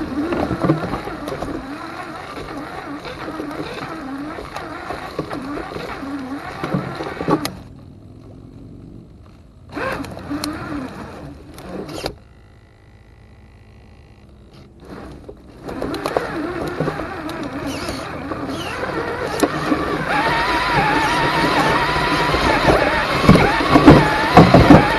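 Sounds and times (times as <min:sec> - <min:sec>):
electric motor whining: 0:00.0 - 0:24.9.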